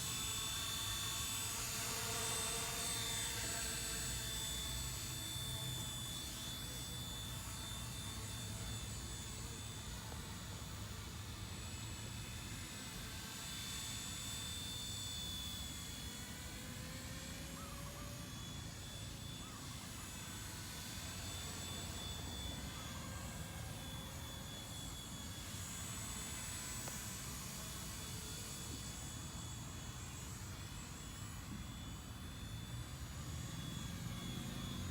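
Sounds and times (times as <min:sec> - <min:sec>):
rc helicopter motor whine: 0:00.0 - 0:34.9.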